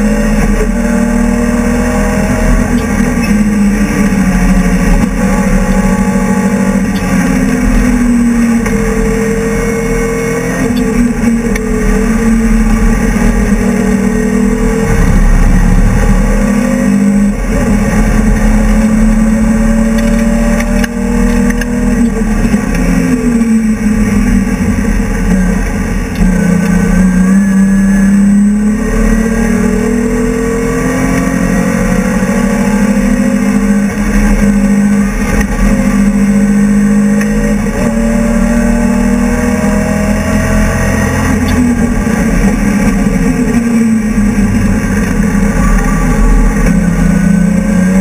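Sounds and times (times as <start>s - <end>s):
race car engine changing gear: 0.0s - 48.0s.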